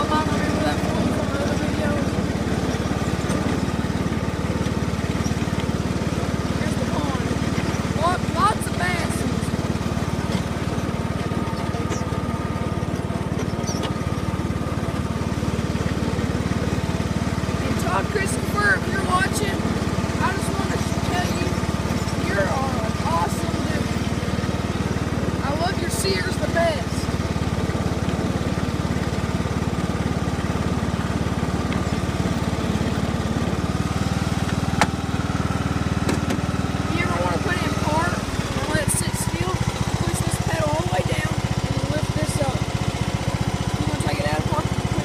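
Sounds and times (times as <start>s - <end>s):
riding lawn mower engine: 0.0s - 45.0s.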